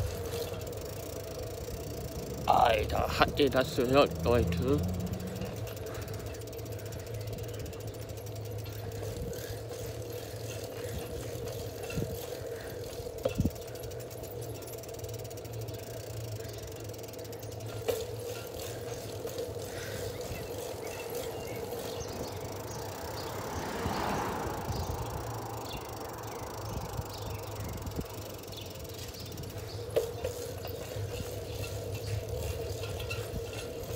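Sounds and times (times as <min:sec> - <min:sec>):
bicycle rolling on asphalt: 0:00.0 - 0:33.9.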